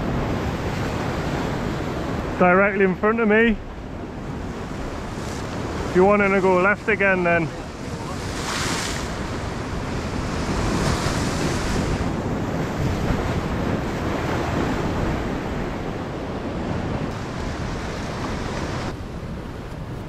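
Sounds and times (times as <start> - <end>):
wind noise on microphone: 0.0 - 6.2, 7.5 - 20.0
waves breaking on rocky shore: 0.0 - 20.0.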